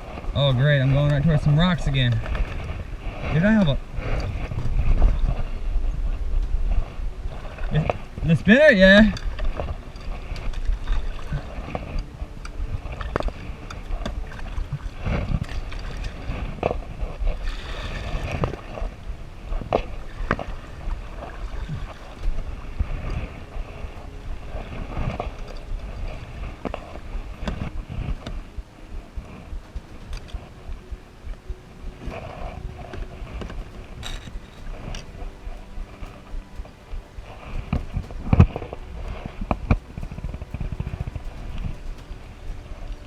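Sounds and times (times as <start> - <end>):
water gurgling and splashing: 0.0 - 43.0
wind rumble on microphone: 0.0 - 43.0.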